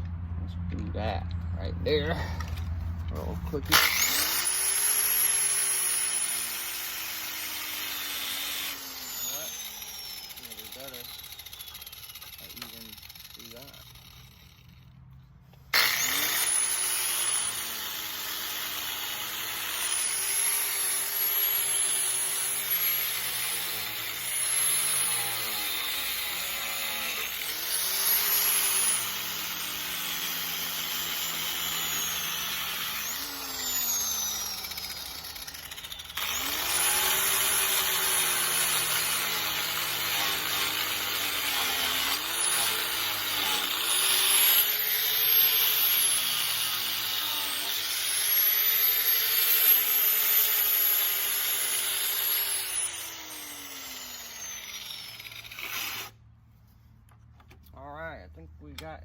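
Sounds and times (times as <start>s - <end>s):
angle grinder grinding steel: 0.9s - 15.0s, 15.6s - 56.2s.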